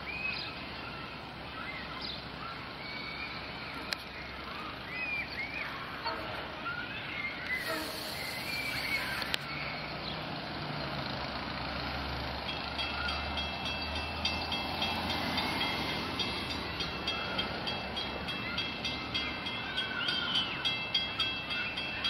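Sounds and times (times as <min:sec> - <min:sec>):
birds chirping: 0:00.0 - 0:11.0, 0:12.5 - 0:22.0
train low rumble: 0:00.0 - 0:22.0.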